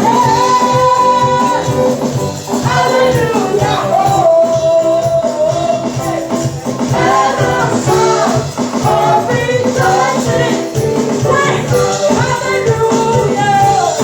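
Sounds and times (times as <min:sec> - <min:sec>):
bass line: 0:00.0 - 0:14.0
congregation singing: 0:00.0 - 0:14.0
live band playing: 0:00.0 - 0:14.0
tambourine or shaker: 0:00.0 - 0:14.0.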